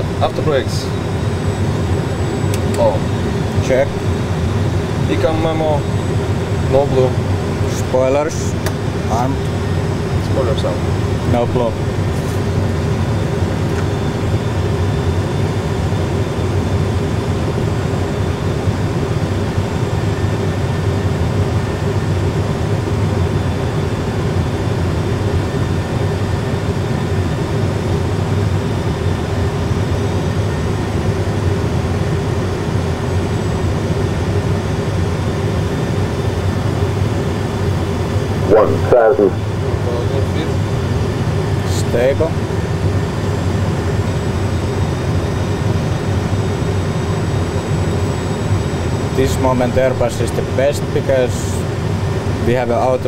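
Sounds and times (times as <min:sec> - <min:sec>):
aircraft engine and airflow rumble: 0:00.0 - 0:53.0.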